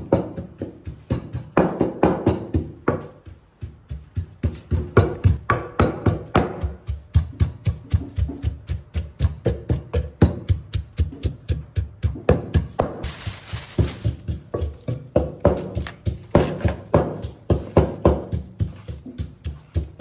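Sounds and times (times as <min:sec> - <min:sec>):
pestle pounding in mortar: 0:00.0 - 0:20.0.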